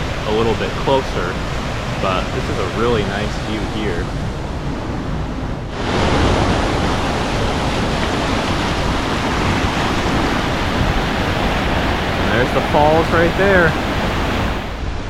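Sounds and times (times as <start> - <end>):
waterfall rushing: 0.0 - 4.1, 5.7 - 14.8.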